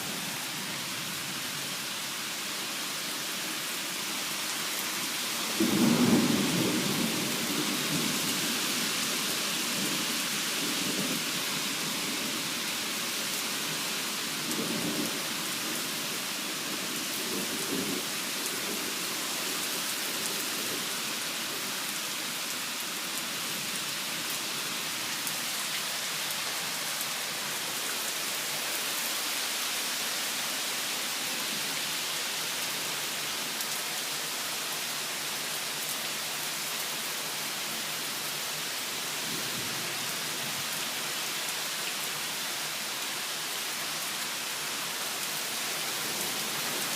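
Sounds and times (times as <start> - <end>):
heavy rain hissing: 0.0 - 46.9.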